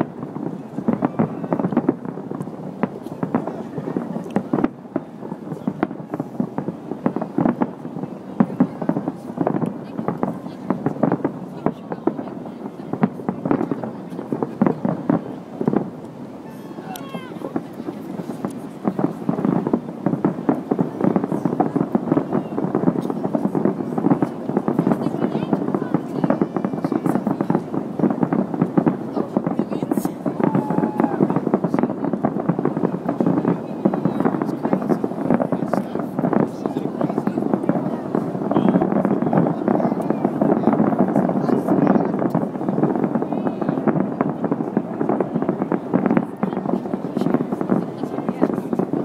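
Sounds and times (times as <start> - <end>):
fireworks bangs and crackles: 0.0 - 49.0.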